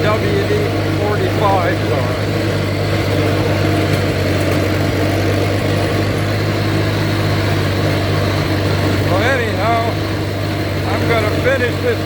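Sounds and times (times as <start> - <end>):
mower blades turning: 0.0 - 12.0
tractor engine running: 0.0 - 12.0.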